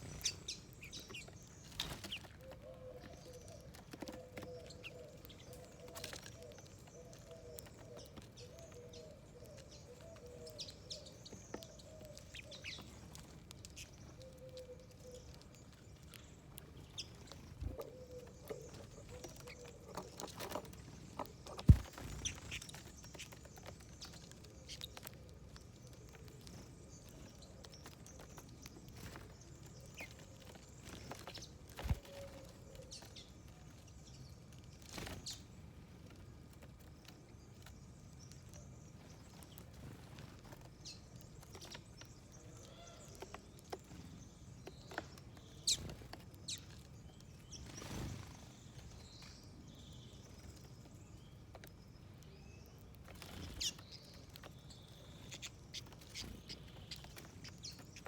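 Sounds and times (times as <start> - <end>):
birds pecking and hopping: 0.0 - 58.0.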